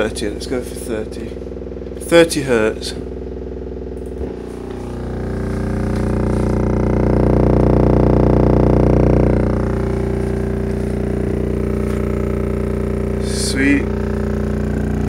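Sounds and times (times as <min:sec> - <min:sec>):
deep buzzy subwoofer hum: 0:00.0 - 0:15.0.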